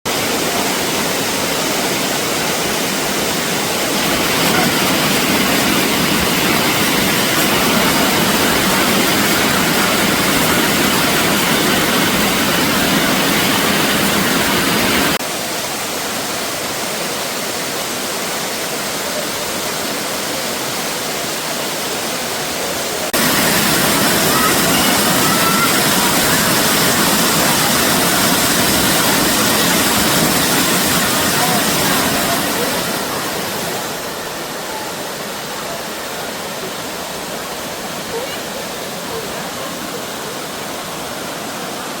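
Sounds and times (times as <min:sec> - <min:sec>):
waterfall rushing: 0:00.1 - 0:42.0.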